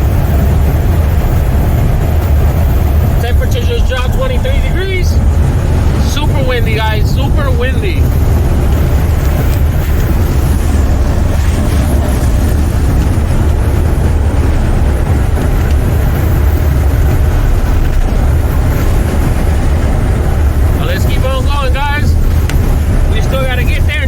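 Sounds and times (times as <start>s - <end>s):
road noise: 0.0s - 24.0s
truck engine drone: 0.0s - 24.0s
wind noise rushing: 0.0s - 24.0s.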